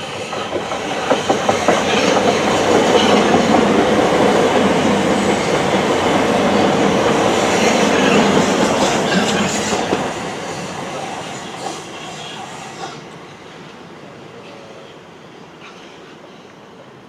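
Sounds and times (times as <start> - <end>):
train wheels rumbling and clattering: 0.0 - 13.8.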